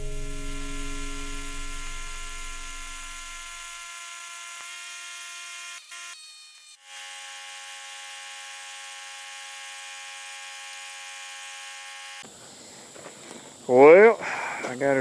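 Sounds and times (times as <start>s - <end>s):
small motor whining: 0.0s - 12.3s.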